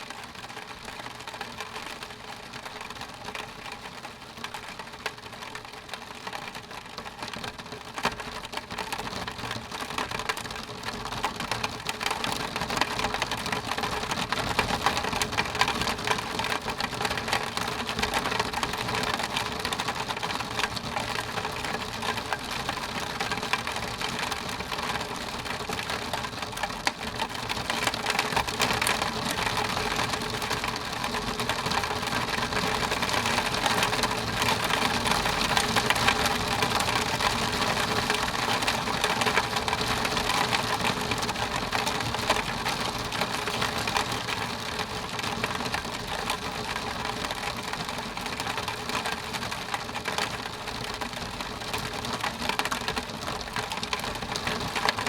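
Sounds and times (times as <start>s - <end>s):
rain pattering on window glass: 0.0s - 55.0s.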